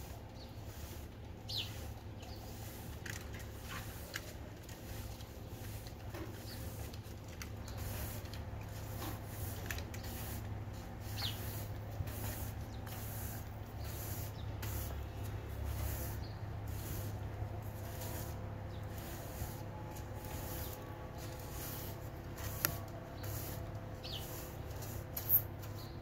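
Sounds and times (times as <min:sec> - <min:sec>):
broom sweeping tiled floor: 0:00.0 - 0:26.0.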